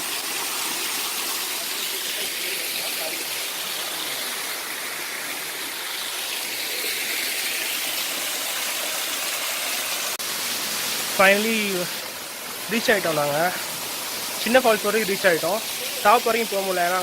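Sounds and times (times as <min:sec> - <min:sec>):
water rushing at waterfall: 0:00.0 - 0:17.0.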